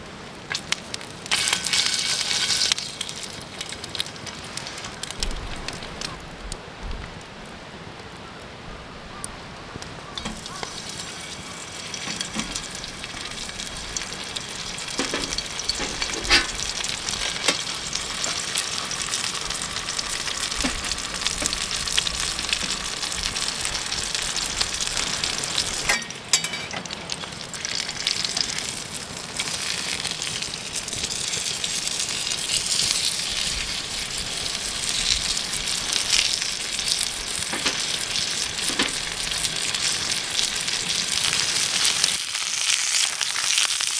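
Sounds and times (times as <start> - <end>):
food sizzling in a pan: 0.4 - 6.2, 10.1 - 43.9
sharp pops from frying: 0.4 - 6.2, 9.8 - 43.9.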